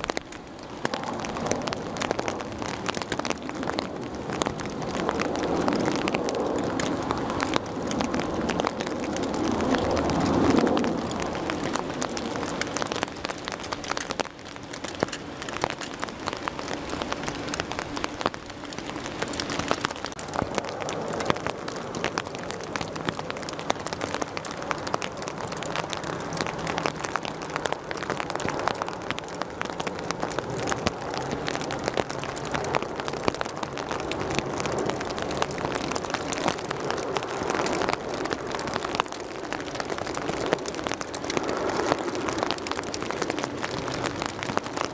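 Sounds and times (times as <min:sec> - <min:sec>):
raindrops pattering on a surface: 0:00.0 - 0:44.9
steady rain: 0:00.0 - 0:44.9.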